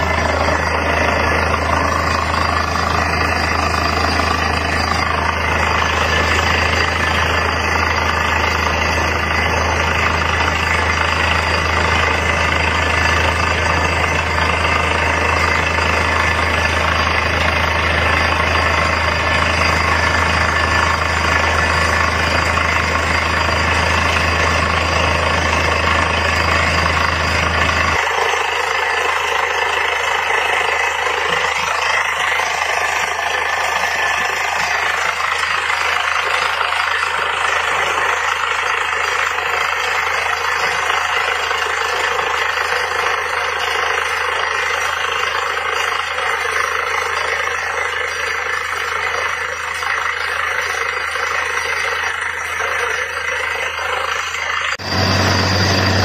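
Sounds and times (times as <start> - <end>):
rig engine running: 0.0 - 56.0.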